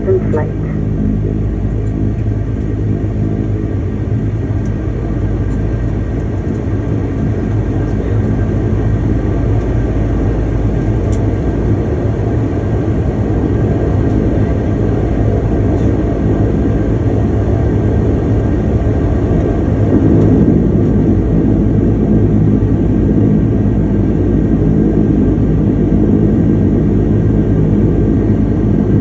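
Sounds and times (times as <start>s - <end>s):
propeller hum: 0.0s - 29.0s
turboprop engines droning in cabin: 0.0s - 29.0s.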